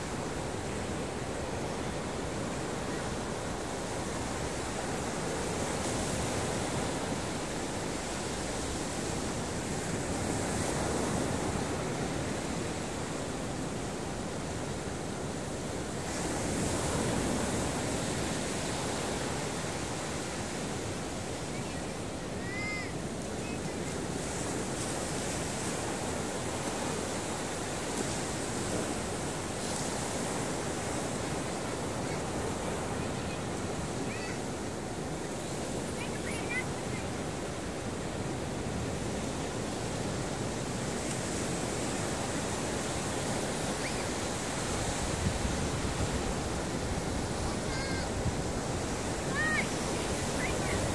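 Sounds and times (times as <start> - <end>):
waves breaking on a beach: 0.0 - 50.9.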